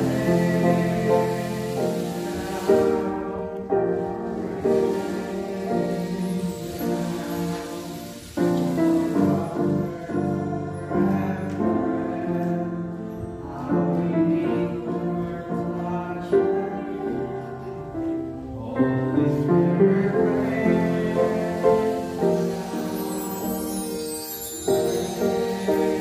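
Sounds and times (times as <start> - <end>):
grand piano: 0.0 - 26.0
group of singers: 0.0 - 26.0.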